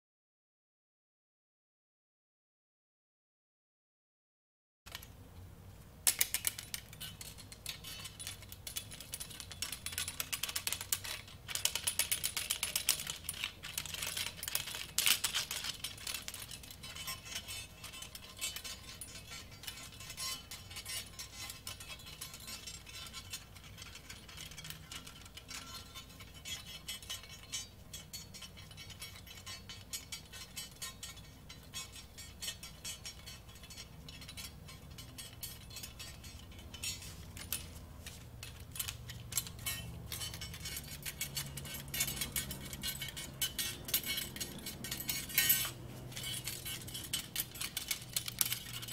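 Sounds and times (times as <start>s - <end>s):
metallic clicking and crackling: 4.9s - 5.2s, 6.0s - 48.9s.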